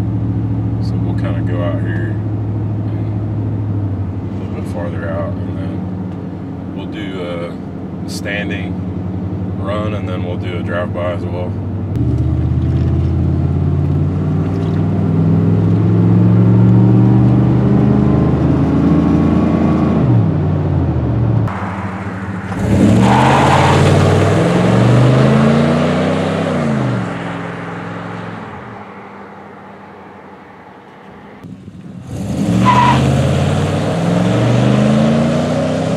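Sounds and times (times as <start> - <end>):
truck engine accelerating: 0.0 - 35.9.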